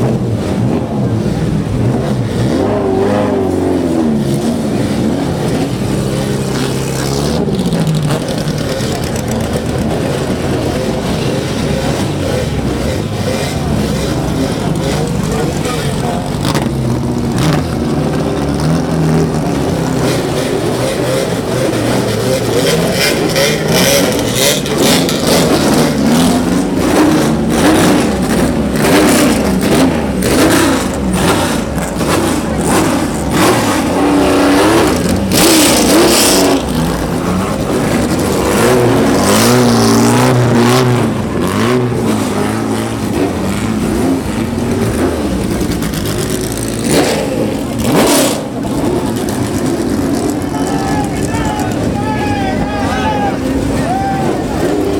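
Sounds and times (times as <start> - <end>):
racing car engines revving: 0.0 - 54.9.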